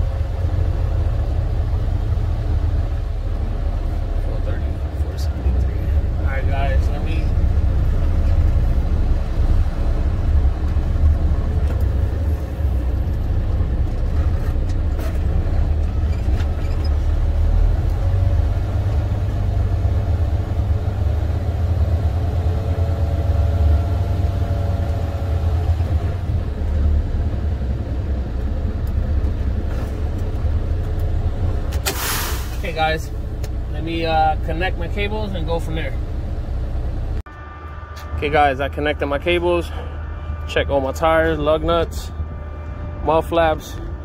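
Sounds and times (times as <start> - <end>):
truck diesel engine rumble: 0.0 - 44.0.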